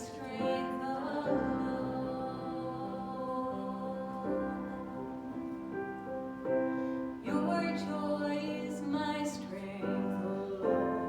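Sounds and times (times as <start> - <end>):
slow worship song: 0.0 - 11.0.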